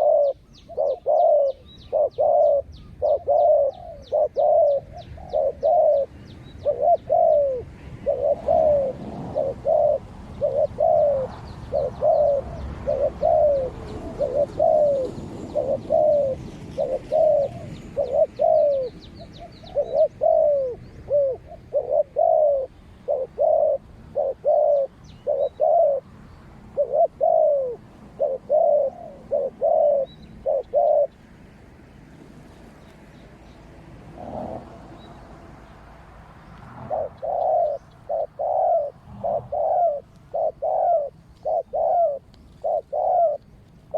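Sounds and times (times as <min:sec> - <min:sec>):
doves cooing: 0:00.0 - 0:43.9
small birds chirping: 0:00.0 - 0:43.9.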